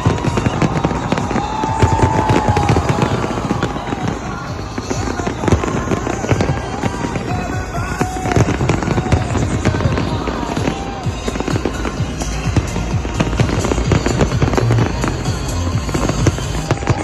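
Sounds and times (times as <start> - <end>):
fireworks bangs and crackles: 0.0 - 17.0
music soundtrack: 0.0 - 17.0.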